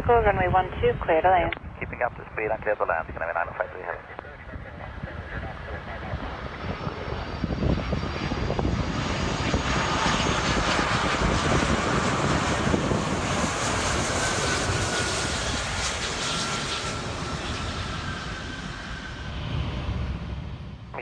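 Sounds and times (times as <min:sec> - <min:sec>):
jet airliner engines passing: 0:00.0 - 0:21.0.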